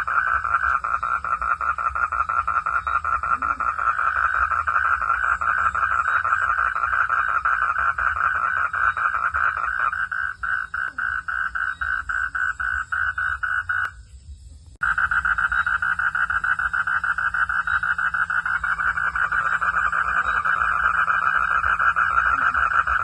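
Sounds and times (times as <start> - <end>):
frogs calling in chorus: 0.0 - 14.0, 14.8 - 23.0.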